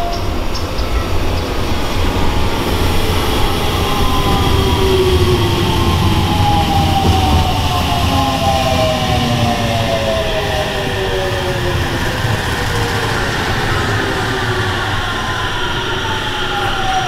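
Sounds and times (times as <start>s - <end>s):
electric train rumbling: 0.0s - 17.0s
train motor whine: 0.0s - 17.0s.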